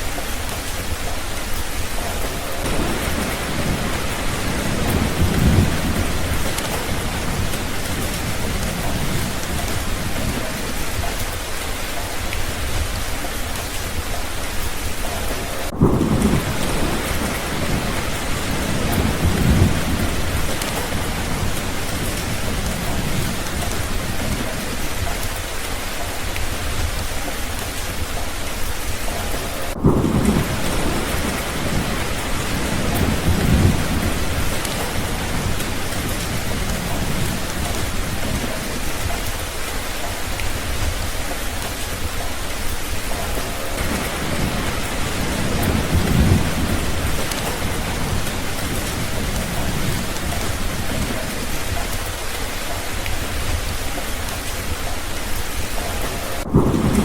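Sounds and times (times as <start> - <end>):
steady rain falling: 0.0 - 57.0
thunder rumbling: 0.0 - 57.0.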